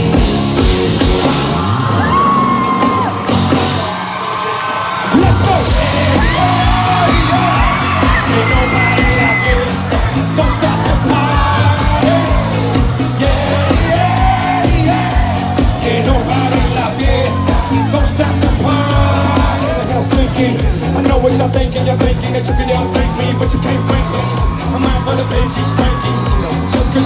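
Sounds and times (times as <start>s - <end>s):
dance-pop music with heavy beat: 0.0s - 27.0s
people yelling: 1.4s - 20.5s, 22.2s - 27.0s
person singing: 5.1s - 27.0s.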